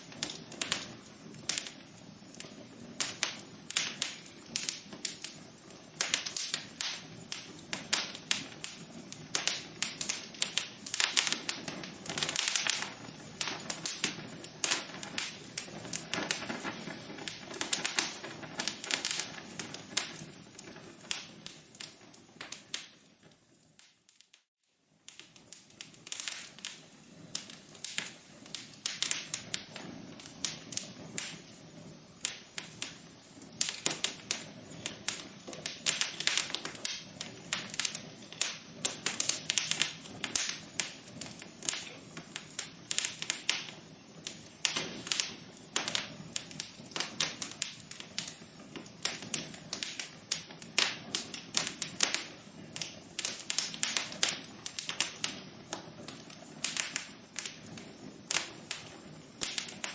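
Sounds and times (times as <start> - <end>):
soft steady fire hiss: 0.0 - 59.9
wood fire crackling and popping: 0.0 - 59.9.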